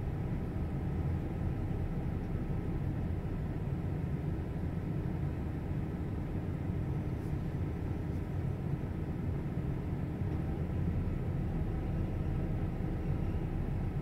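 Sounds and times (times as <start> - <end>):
faint hum: 0.0 - 14.0
vehicle engine idling: 0.0 - 14.0.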